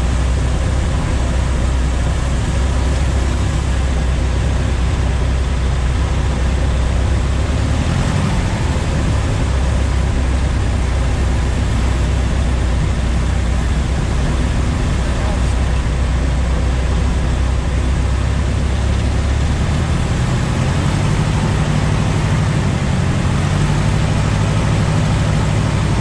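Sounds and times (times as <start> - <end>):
light aircraft engine drone: 0.0 - 26.0
wind noise: 0.0 - 26.0.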